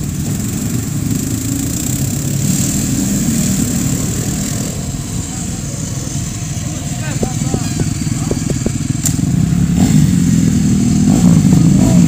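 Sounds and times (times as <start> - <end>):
vehicle engine idling: 0.0 - 11.1.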